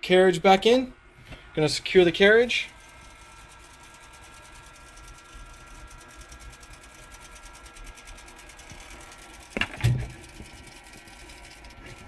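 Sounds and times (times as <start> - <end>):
printer motor hum with ticking: 1.6 - 12.0.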